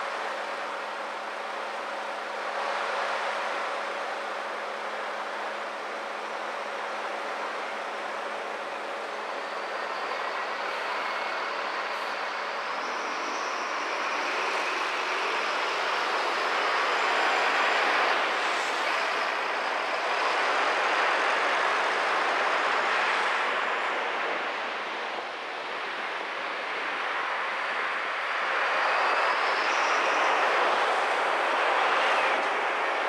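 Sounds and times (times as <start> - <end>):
city bus passing: 0.0 - 33.0
city street traffic: 0.0 - 33.0.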